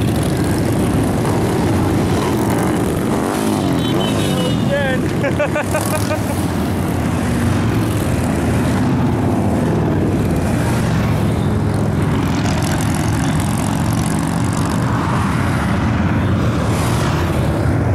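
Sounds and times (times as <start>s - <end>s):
motorcycles riding past: 0.0s - 17.9s.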